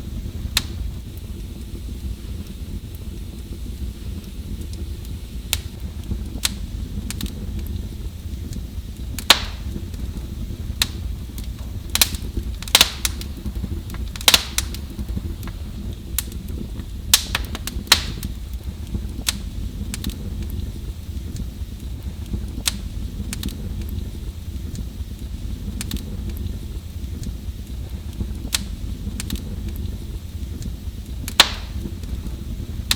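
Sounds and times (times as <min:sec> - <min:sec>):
fire crackling and popping: 0:00.0 - 0:32.9
low rumble of flames: 0:00.0 - 0:32.9.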